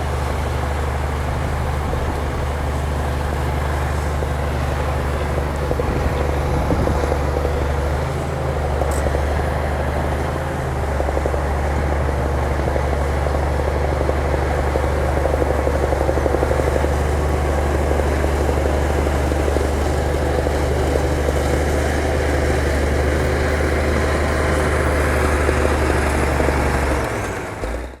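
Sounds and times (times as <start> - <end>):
heavy diesel engine drone: 0.0 - 28.0.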